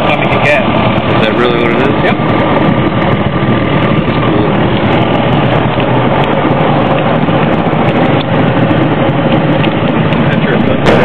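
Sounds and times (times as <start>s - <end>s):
aircraft engine and propeller: 0.0s - 11.0s.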